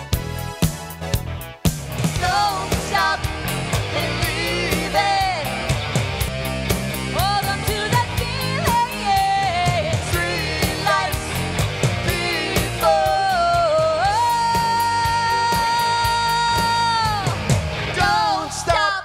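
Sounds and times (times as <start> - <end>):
steady drum beat: 0.0 - 18.9
guitar: 0.0 - 19.0
woman singing lead: 2.1 - 5.7, 7.1 - 19.0.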